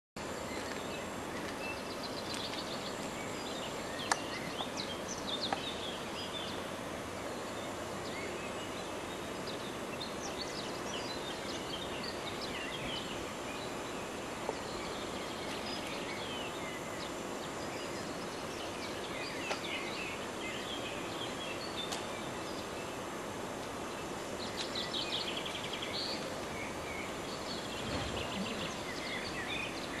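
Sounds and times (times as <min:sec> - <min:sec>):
birds chirping: 0:00.2 - 0:30.0
outdoor ambient hiss: 0:00.2 - 0:30.0.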